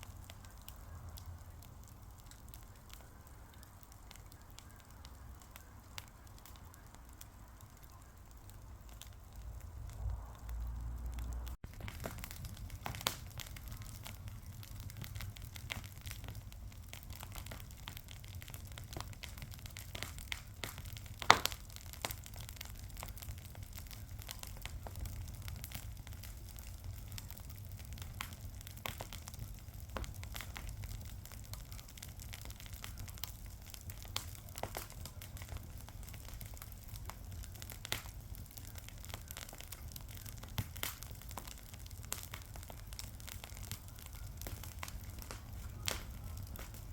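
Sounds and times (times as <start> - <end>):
fire crackling: 0.0 - 46.9.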